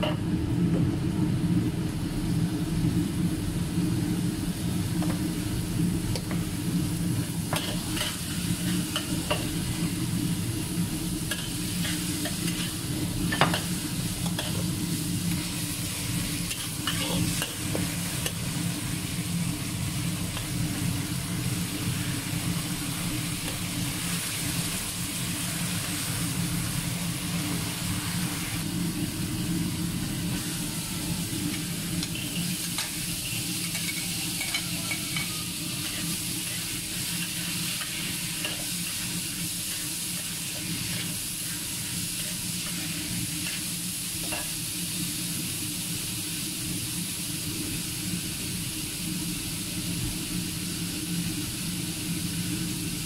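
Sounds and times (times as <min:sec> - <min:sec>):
food sizzling in a wok: 0:00.0 - 0:53.0.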